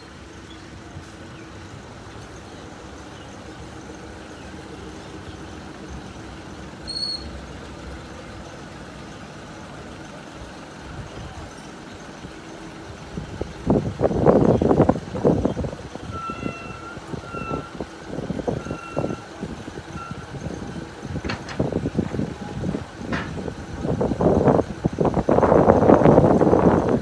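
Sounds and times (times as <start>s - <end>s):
diesel locomotive engine idling: 0.0s - 27.0s
loud uneven noise: 0.0s - 27.0s.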